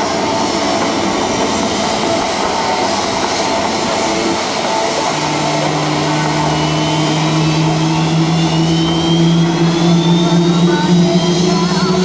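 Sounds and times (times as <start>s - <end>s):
high whine rising in pitch: 0.0s - 12.0s
jet engines roaring: 0.0s - 12.0s
low hum: 0.0s - 12.0s.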